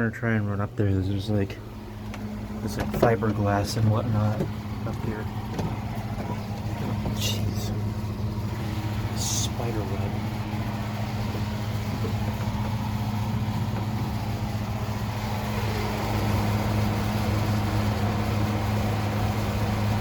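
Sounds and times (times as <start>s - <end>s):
exhaust fan motor hum: 0.0s - 20.0s.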